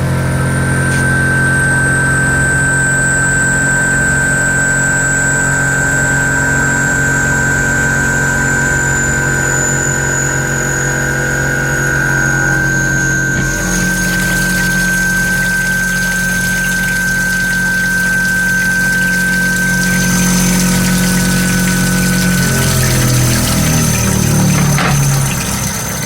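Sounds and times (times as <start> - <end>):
washing machine motor humming: 0.0 - 26.0.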